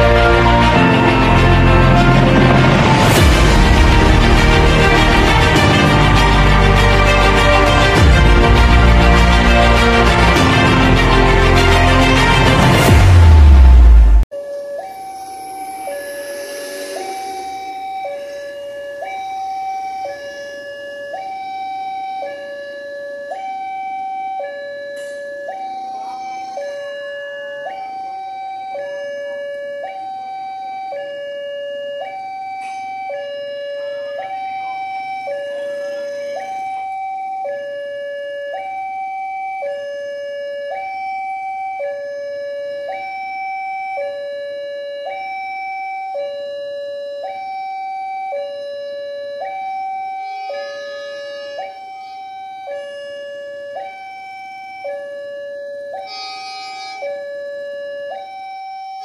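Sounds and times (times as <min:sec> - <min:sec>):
electronic two-tone siren: 0:00.0 - 0:59.0.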